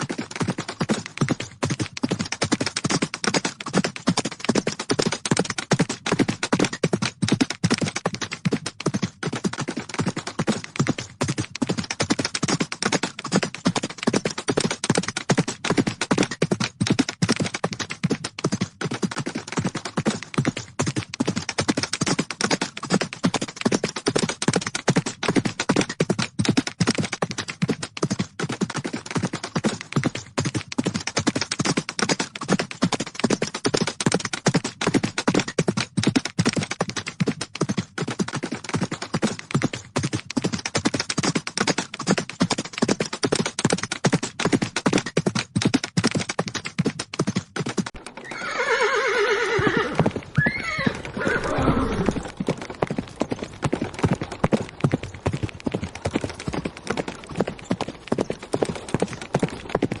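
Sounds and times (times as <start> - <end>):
horses galloping: 0.0 - 60.0.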